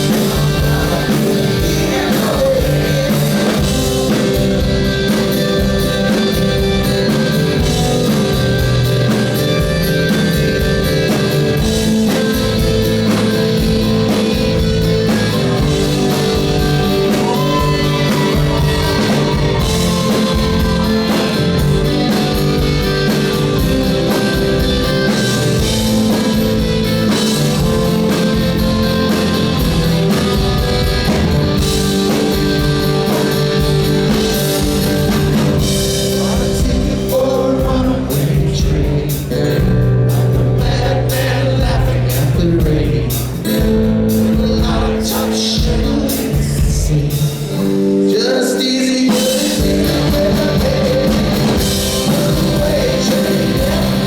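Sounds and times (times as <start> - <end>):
lead vocal singing: 0.0 - 8.8, 14.0 - 30.5, 31.6 - 54.0
rock band playing live: 0.0 - 54.0.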